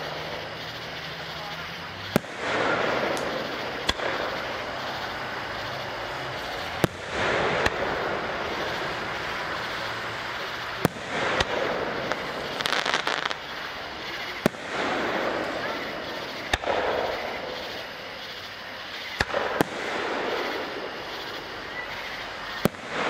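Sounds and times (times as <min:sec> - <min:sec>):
fireworks bangs: 0:00.0 - 0:23.0
small fireworks pops: 0:00.0 - 0:23.0.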